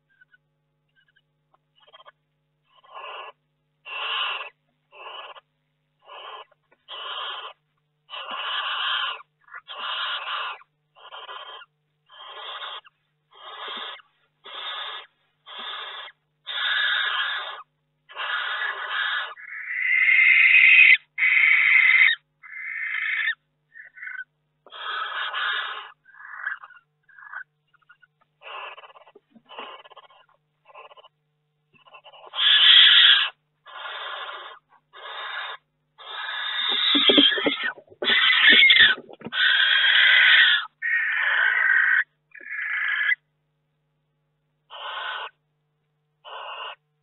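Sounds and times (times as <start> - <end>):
owl screech: 1.8 - 31.1, 31.8 - 43.3, 44.7 - 45.4, 46.2 - 46.8
owl hissing calls: 1.8 - 31.2, 31.8 - 43.3, 44.7 - 45.4, 46.2 - 46.8.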